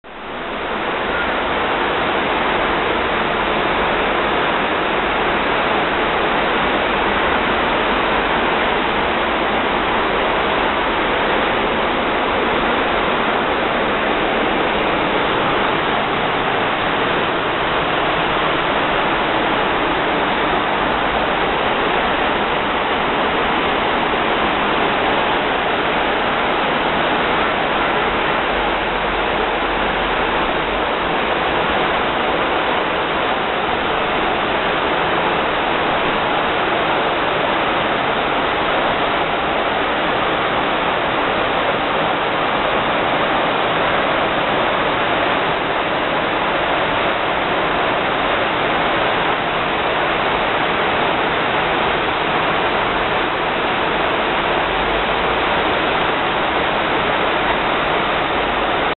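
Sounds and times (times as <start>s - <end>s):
river rushing: 0.0s - 58.9s.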